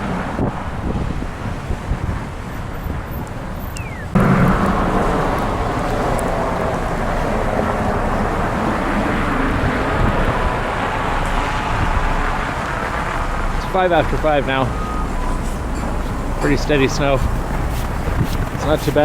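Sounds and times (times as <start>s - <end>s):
snowstorm wind on microphone: 0.0s - 19.0s
street traffic: 0.0s - 19.0s.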